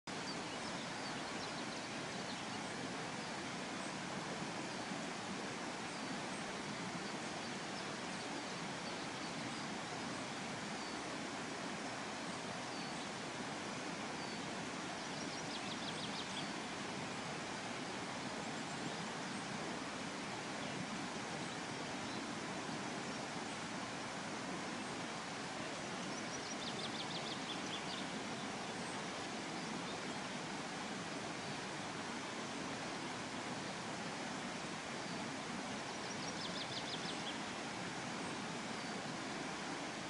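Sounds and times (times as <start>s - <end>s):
songbirds chirping: 0.1s - 40.0s
steady hiss: 0.1s - 40.0s.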